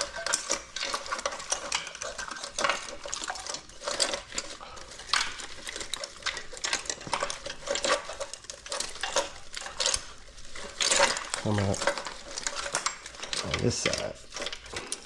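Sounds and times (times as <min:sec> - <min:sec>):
wires and connectors rustling: 0:00.0 - 0:15.0.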